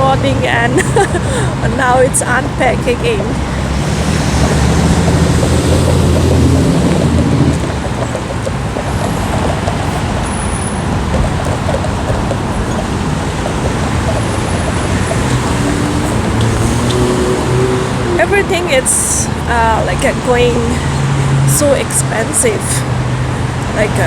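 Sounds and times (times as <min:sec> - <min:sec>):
large vehicle engine droning: 0:00.0 - 0:24.0.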